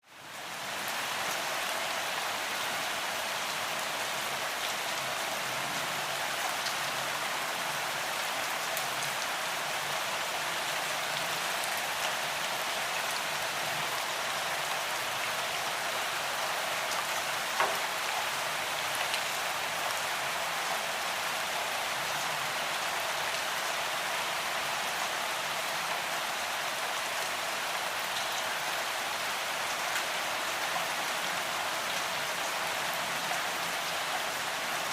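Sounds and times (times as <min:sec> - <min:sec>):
gentle rain falling: 0:00.0 - 0:34.9.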